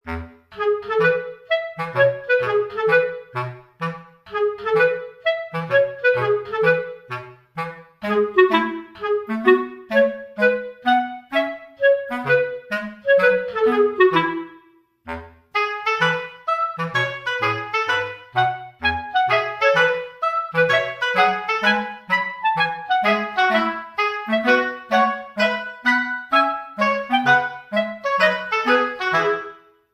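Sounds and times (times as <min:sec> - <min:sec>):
bouncy melody over bass line: 0:00.0 - 0:29.6.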